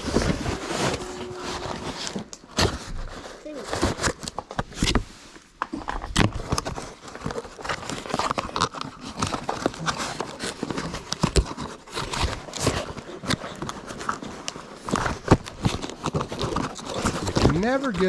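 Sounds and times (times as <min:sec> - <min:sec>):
cardboard packaging rustling: 0:00.0 - 0:18.0.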